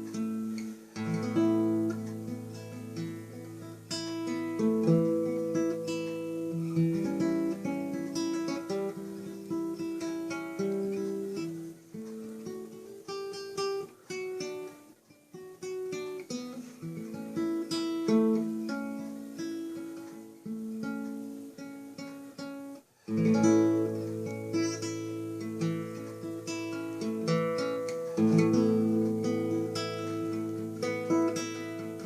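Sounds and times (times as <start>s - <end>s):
fingerstyle acoustic guitar: 0.0s - 32.0s.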